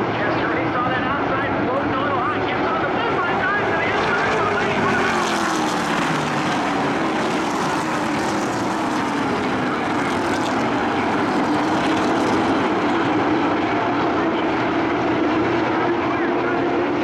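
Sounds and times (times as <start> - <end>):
racing truck engines drone: 0.0 - 17.0.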